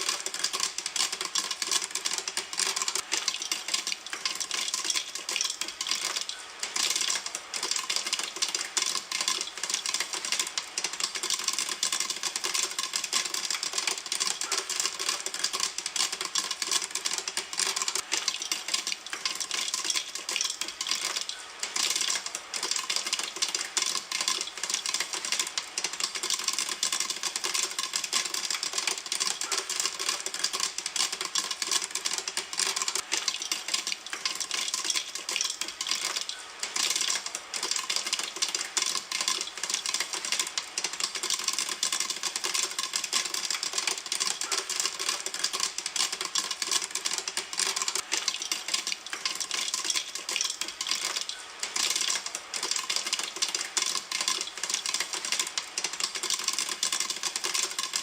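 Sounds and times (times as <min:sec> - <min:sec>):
popcorn popping: 0:00.0 - 0:58.0.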